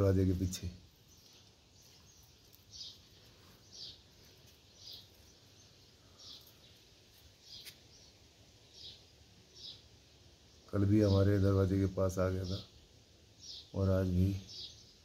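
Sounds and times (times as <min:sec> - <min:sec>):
bird chirping faintly: 0:00.0 - 0:15.0.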